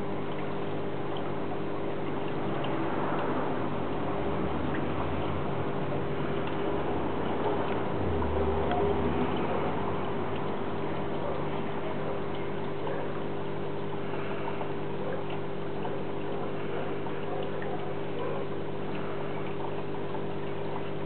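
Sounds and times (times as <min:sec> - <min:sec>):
filter pump humming: 0:00.0 - 0:21.0
trickling water: 0:00.0 - 0:21.0.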